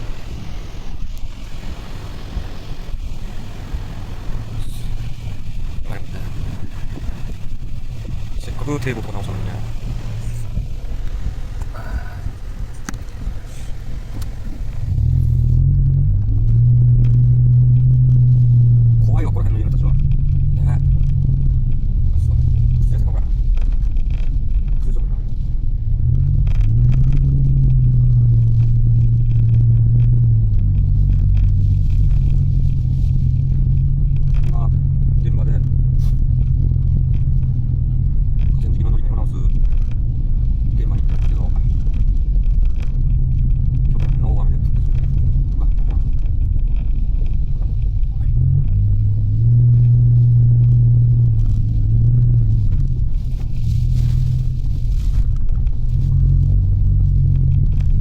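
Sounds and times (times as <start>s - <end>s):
road rumble inside car: 0.0s - 58.0s
vehicle engine running: 0.0s - 58.0s.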